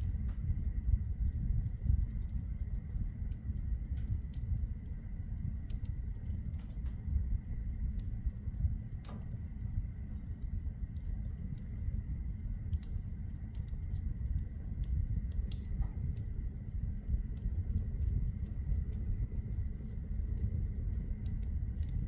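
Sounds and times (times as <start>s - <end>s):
fire crackling and popping: 0.0s - 22.0s
flames rumbling: 0.0s - 22.0s.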